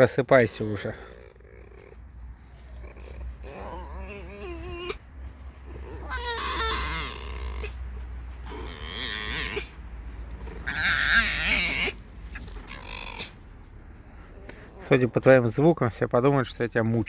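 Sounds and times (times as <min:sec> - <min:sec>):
fox giving squeaky raspy calls: 0:00.5 - 0:15.7.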